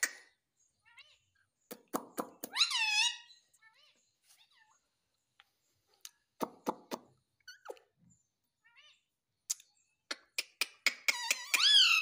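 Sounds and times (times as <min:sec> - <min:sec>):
soft short bird chirps: 0:00.0 - 0:12.0.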